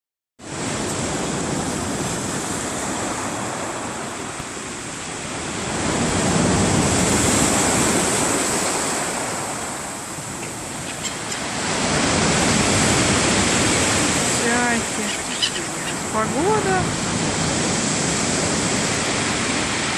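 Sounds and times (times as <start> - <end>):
surf washing onto shore: 0.4 - 19.9.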